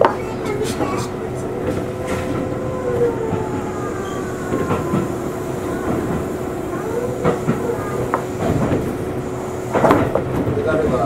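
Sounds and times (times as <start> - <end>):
train motor hum and whine: 0.0 - 11.0
train wheels rumbling on rail: 0.0 - 11.0
wheels clacking over rail joints: 0.0 - 11.0.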